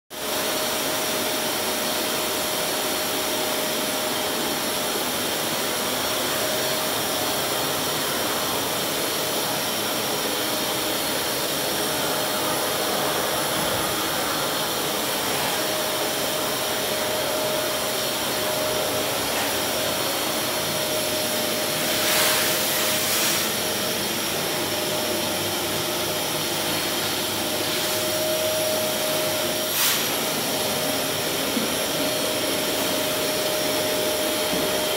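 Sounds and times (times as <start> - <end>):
ventilation fan rushing air: 0.2 - 34.9.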